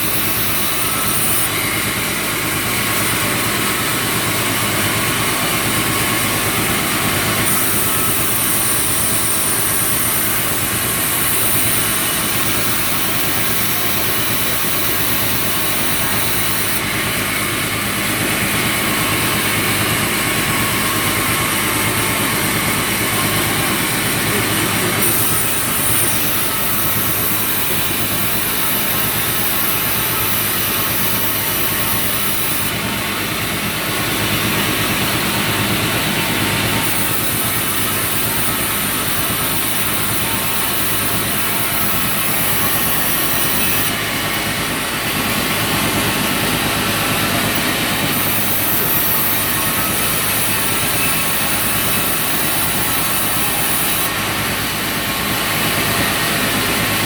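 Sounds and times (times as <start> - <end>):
high-pitched saw whine: 0.0 - 57.0
sawmill saw running: 0.0 - 57.0.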